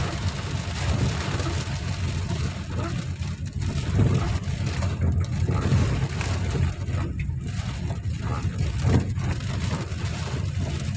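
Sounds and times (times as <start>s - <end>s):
heavy rain: 0.0s - 10.9s.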